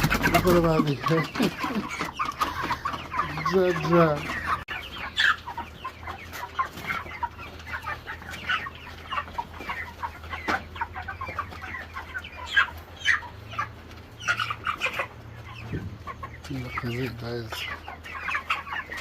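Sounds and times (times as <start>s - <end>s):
chickens clucking and peeping: 0.0s - 19.0s.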